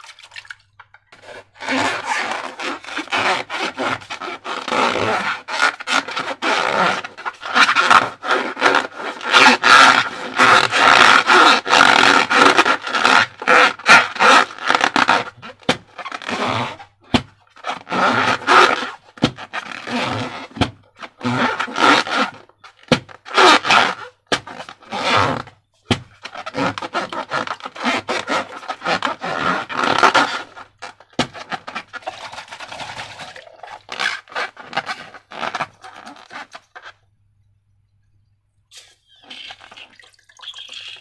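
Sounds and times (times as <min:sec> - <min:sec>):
rubbing and scraping rubber: 0:01.1 - 0:37.2.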